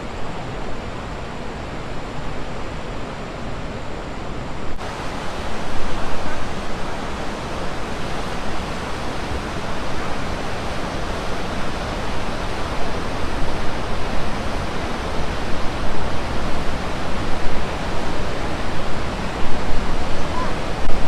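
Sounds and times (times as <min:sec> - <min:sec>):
water rushing over falls and rapids: 0:00.0 - 0:21.0.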